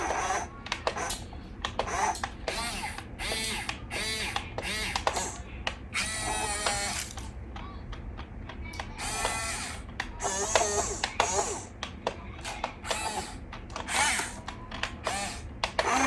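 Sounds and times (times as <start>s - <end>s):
toy electric motors whining: 0.0s - 7.4s, 8.6s - 11.8s, 12.4s - 16.0s.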